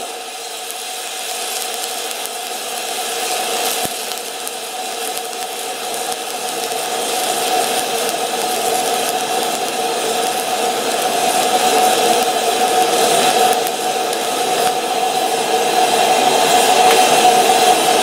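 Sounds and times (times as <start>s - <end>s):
steady hum: 0.0s - 18.0s
welding arc crackling and hissing: 0.0s - 18.0s.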